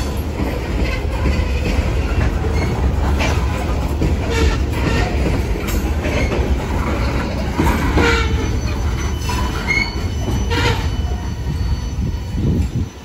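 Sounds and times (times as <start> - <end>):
freight cars rumbling on rails: 0.0 - 13.0
high wheel squeals: 0.0 - 13.0.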